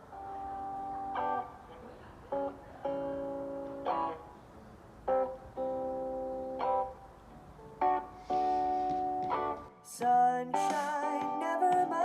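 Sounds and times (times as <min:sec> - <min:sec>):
strummed guitar chords: 0:00.0 - 0:12.0.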